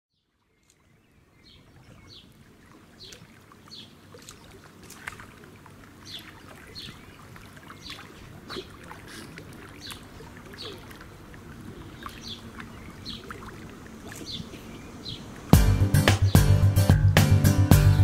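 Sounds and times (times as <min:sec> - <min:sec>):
water lapping and trickling: 0:00.1 - 0:15.7.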